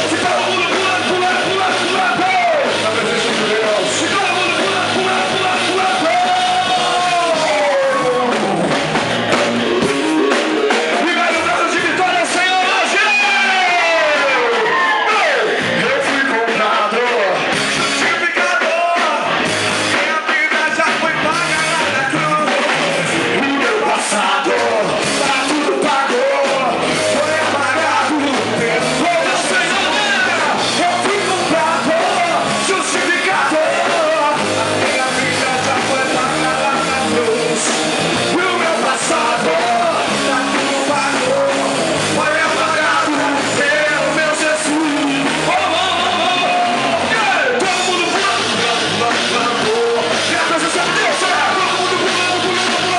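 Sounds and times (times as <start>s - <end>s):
group singing and shouting: 0.0s - 52.9s
worship band music: 0.0s - 52.9s.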